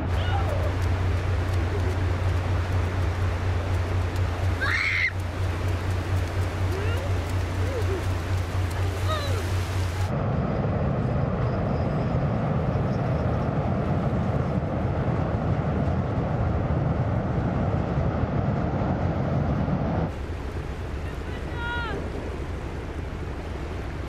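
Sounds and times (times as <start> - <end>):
ferry engines rumbling: 0.0 - 24.0
low hum: 0.0 - 24.0.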